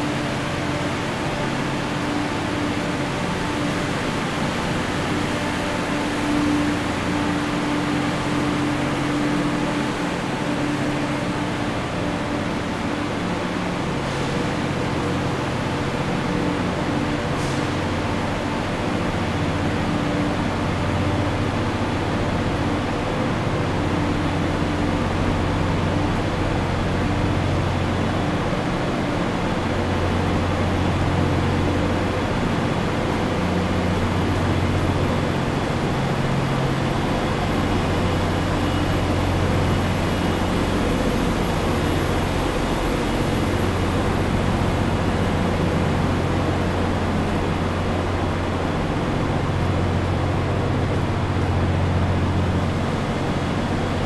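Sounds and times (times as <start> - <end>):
trains humming and rumbling: 0.0 - 54.0.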